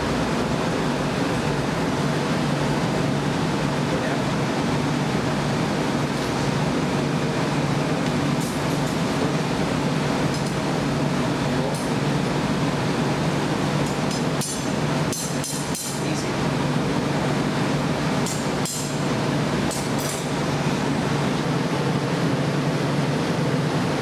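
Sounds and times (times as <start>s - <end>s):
furnace burners roaring: 0.0s - 24.0s.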